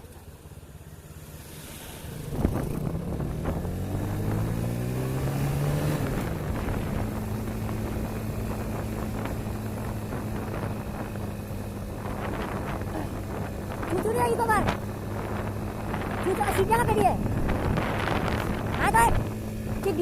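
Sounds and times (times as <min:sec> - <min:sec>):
motorcycle engine accelerating: 0:00.0 - 0:20.0
wind noise on microphone: 0:02.2 - 0:20.0.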